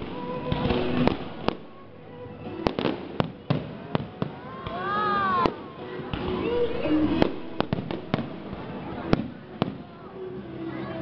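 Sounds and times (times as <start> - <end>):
fireworks bangs: 0.0 - 1.8, 2.5 - 9.9.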